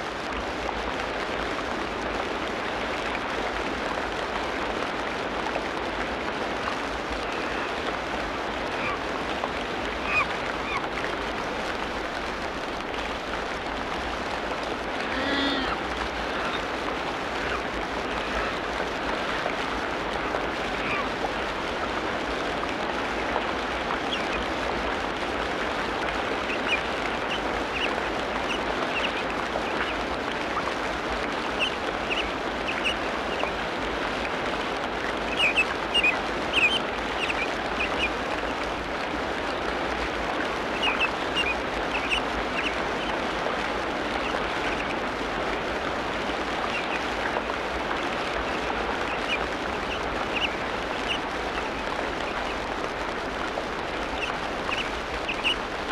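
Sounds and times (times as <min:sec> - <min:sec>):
dense hiss-like background: 0:00.0 - 0:55.9.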